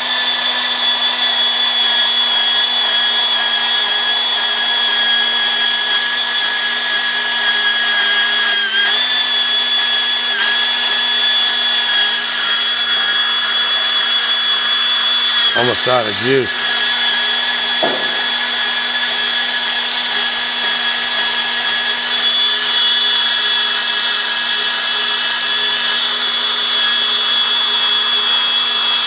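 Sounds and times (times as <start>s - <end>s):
pipe threading machine motor whine: 0.0s - 29.0s.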